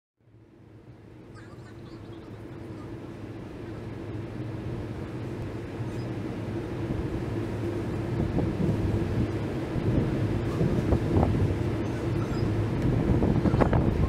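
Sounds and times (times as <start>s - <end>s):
crane engine droning: 0.2s - 14.0s.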